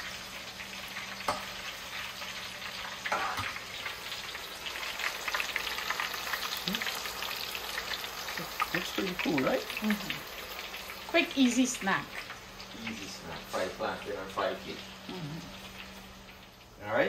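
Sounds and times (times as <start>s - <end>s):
plantain deep-frying in oil: 0.0s - 17.0s.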